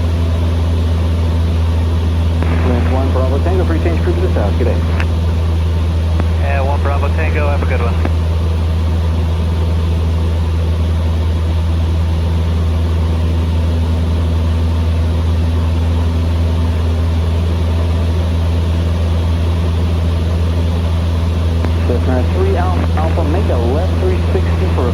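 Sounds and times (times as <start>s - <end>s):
airplane engine and propeller drone: 0.0s - 24.9s.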